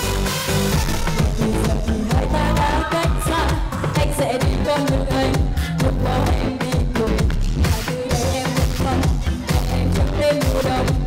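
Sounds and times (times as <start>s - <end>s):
dance-pop music with electronic beat: 0.0s - 11.0s.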